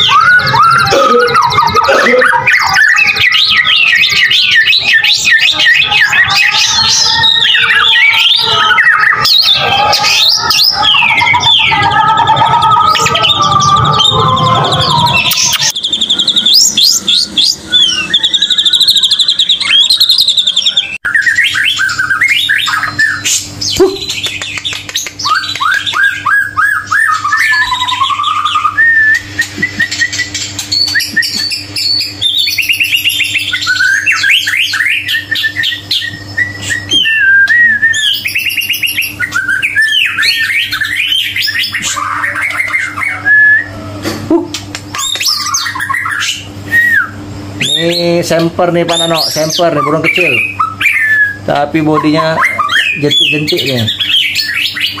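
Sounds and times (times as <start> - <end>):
songbird whistling and trilling: 0.0 - 43.9, 44.5 - 55.0.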